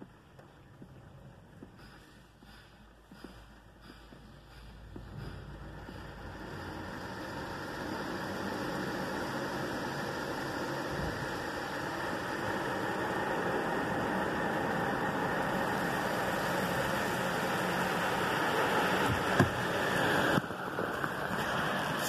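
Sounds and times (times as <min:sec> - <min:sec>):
car wash machinery and water spray: 0:00.0 - 0:22.0.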